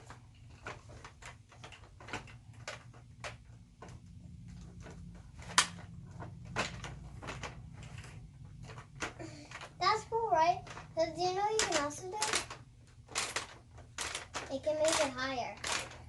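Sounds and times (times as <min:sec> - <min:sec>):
plastic toys clicking: 0:00.0 - 0:16.0.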